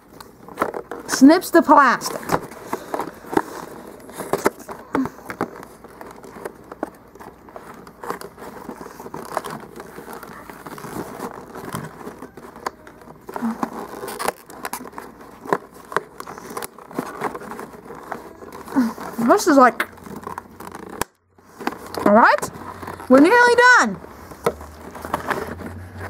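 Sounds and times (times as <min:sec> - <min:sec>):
scissors snipping plastic packaging: 0:02.1 - 0:23.4.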